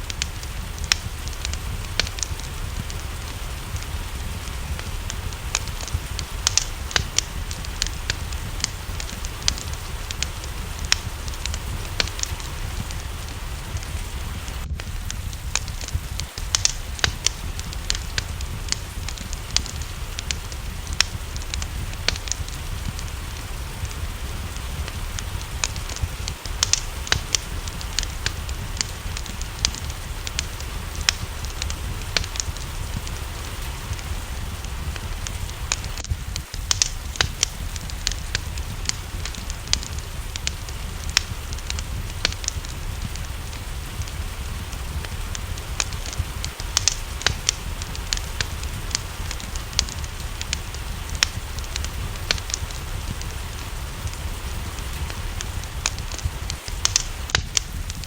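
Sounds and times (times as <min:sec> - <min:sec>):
rain rumble and hiss: 0:00.0 - 0:58.0
wood fire crackling: 0:00.0 - 0:58.0.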